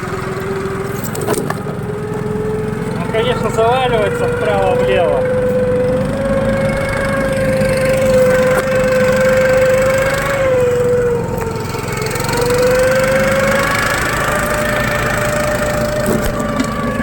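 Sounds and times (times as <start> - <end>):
snow tow engine running: 0.0 - 17.0.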